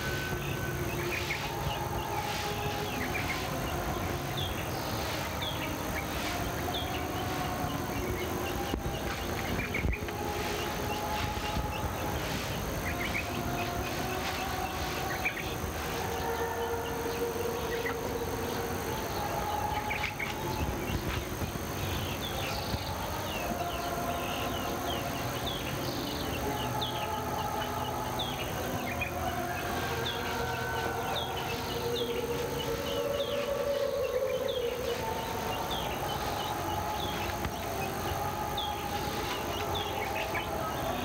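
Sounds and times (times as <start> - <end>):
bird chirps: 0.0 - 41.0
steady high drone: 0.0 - 41.0
wavering low tones: 0.0 - 41.0.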